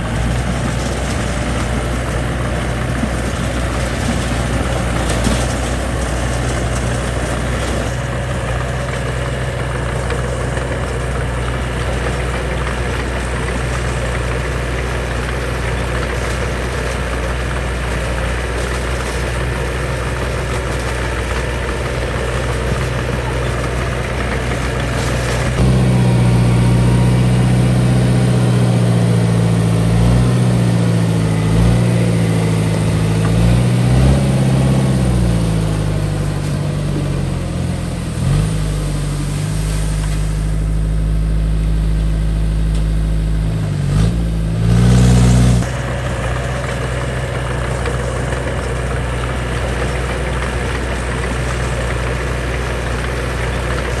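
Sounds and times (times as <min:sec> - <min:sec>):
heavy machine engine running: 0:00.0 - 0:54.0.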